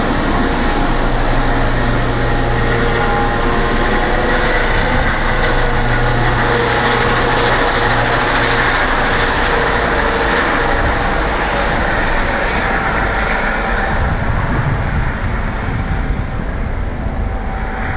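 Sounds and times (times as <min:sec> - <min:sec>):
helicopter flying overhead: 0:00.0 - 0:17.9.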